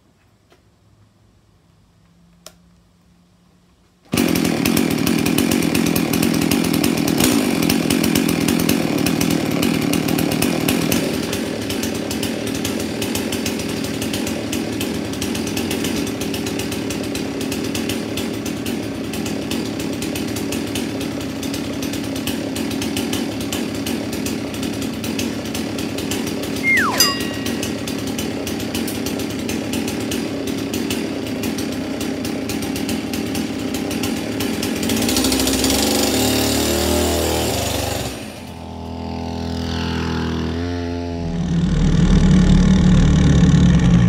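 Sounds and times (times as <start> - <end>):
chainsaw engine idling: 4.1 - 39.6.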